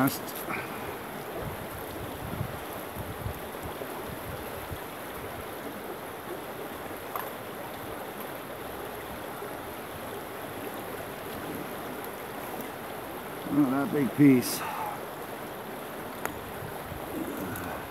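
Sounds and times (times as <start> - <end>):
stream rippling over rocks: 0.0 - 17.9.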